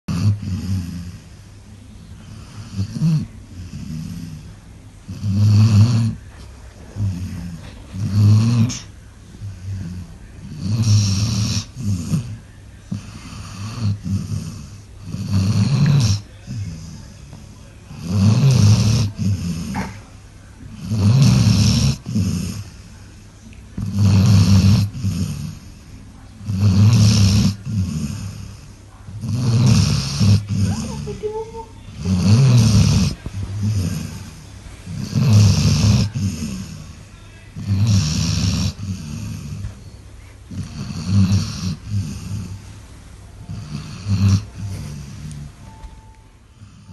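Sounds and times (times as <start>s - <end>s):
dog snoring: 0.1s - 1.5s, 2.1s - 42.7s, 43.4s - 45.8s, 46.5s - 46.9s.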